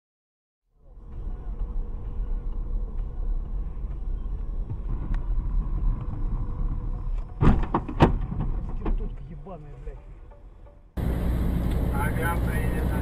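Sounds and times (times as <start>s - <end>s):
car engine and road rumble: 0.8s - 13.0s.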